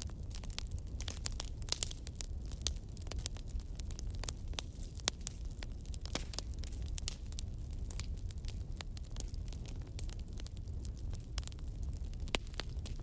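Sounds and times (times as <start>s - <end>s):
low rumble of fire: 0.0s - 13.0s
wood fire crackling: 0.0s - 13.0s.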